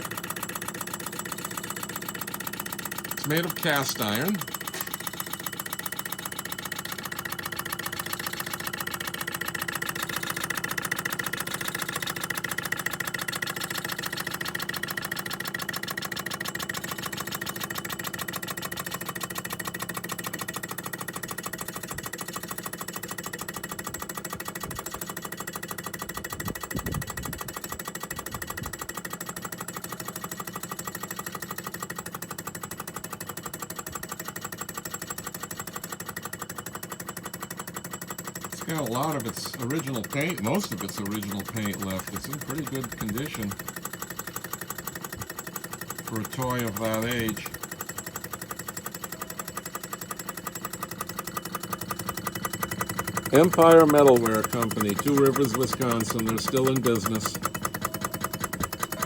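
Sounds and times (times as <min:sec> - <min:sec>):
engine rapid mechanical ticking: 0:00.0 - 0:59.0.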